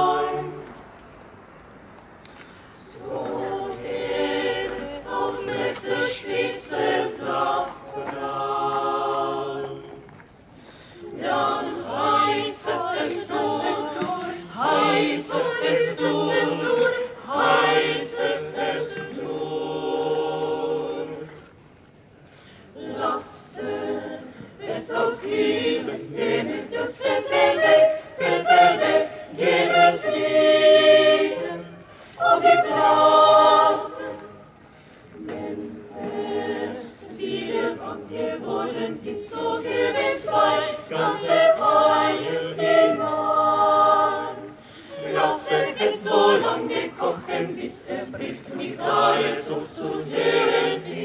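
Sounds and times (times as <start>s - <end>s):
mixed choir singing a cappella: 0.0s - 1.0s, 2.8s - 10.2s, 11.0s - 21.6s, 22.6s - 51.0s.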